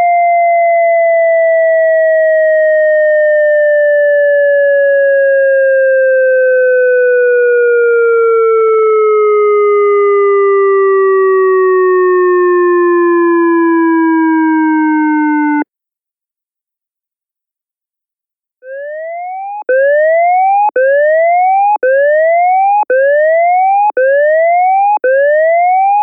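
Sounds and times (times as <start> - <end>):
siren tone gliding down: 0.0 - 15.6, 18.6 - 26.0.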